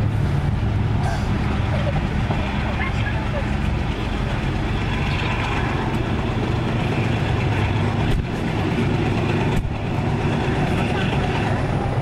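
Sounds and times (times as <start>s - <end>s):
low drone: 0.0s - 12.0s
train wheels rumbling on track: 0.0s - 12.0s.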